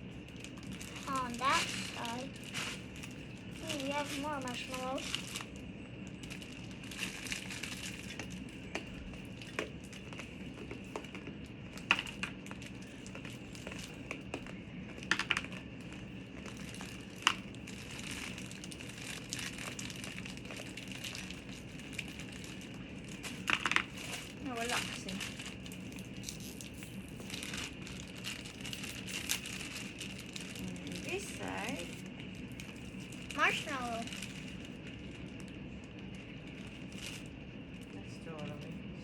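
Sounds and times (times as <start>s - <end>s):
plastic packaging crinkling: 0.0s - 38.0s
sharp clicks and crackles: 0.2s - 37.2s.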